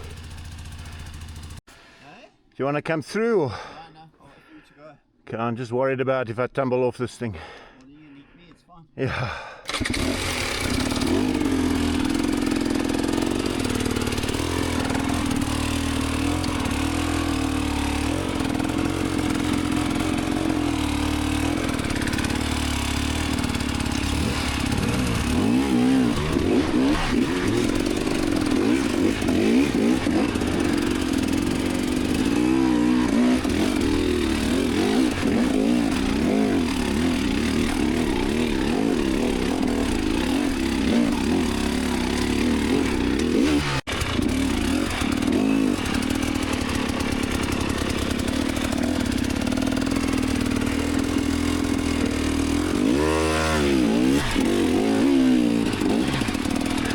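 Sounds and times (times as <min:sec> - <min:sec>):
dirt bike engine revving: 0:00.0 - 0:01.6, 0:09.3 - 0:56.9.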